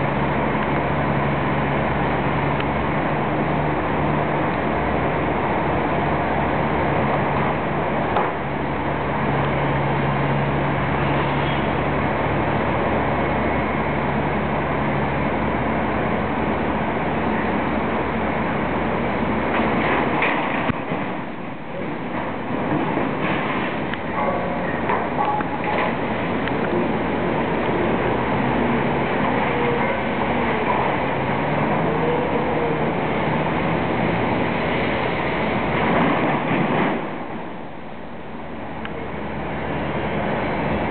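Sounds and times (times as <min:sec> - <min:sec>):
heavy machinery engine drone: 0:00.0 - 0:40.9.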